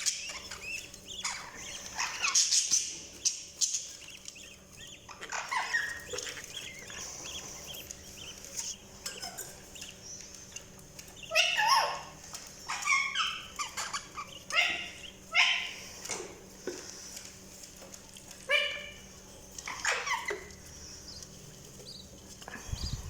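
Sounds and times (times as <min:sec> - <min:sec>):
budgies chirping and squawking: 0:00.0 - 0:17.4, 0:18.2 - 0:23.0.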